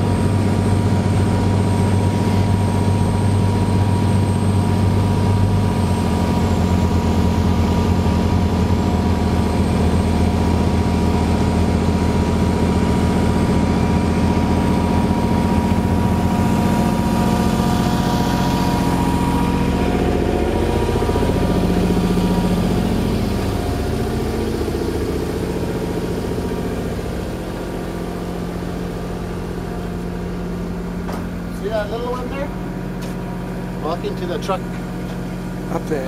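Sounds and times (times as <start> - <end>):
ferry engine running: 0.0 - 36.0.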